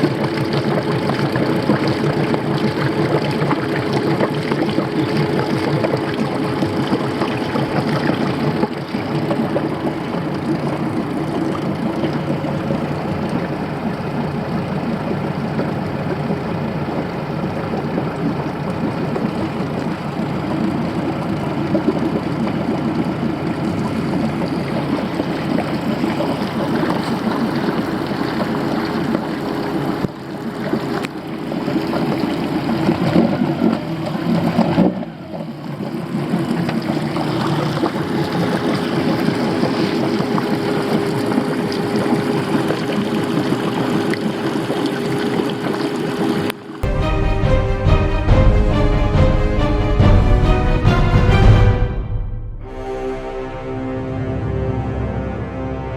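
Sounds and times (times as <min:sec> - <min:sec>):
outboard motor idling: 0:00.0 - 0:47.0.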